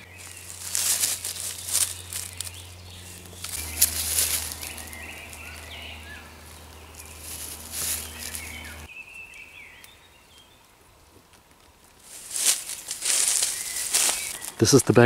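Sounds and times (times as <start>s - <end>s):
dry leaves rustling and crunching: 0.0s - 9.7s, 11.2s - 15.0s
birds chirping: 0.0s - 11.0s, 12.2s - 15.0s.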